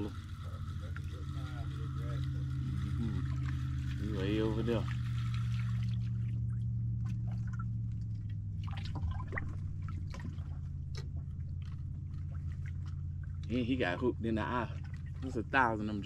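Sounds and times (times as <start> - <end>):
small splashes: 0.0 - 16.0
steady low hum: 0.0 - 16.0
water pouring and splashing: 0.0 - 16.0.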